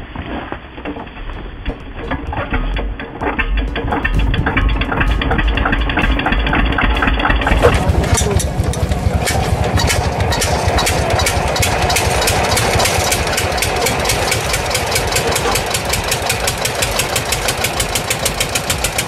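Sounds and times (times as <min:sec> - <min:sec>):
old tractor engine chugging: 0:01.9 - 0:19.0.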